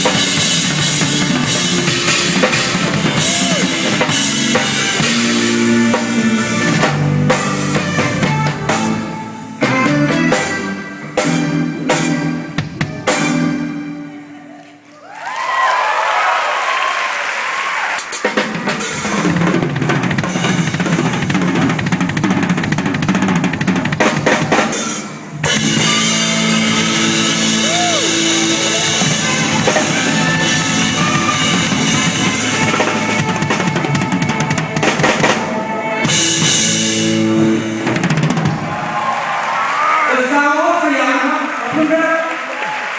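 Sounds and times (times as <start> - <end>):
drum kit playing: 0.0 - 14.3, 17.4 - 40.8
rock band music: 0.0 - 14.7, 17.9 - 42.0.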